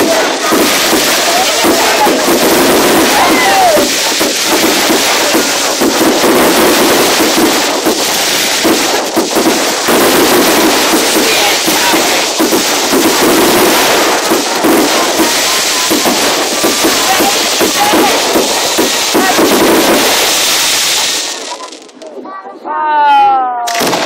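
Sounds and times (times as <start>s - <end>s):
fireworks crackling and popping: 0.0s - 22.2s, 23.7s - 24.0s.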